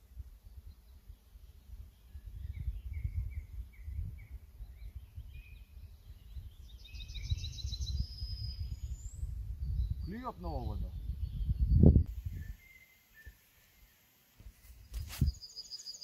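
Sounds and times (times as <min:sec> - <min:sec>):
birds chirping: 0:00.6 - 0:16.0.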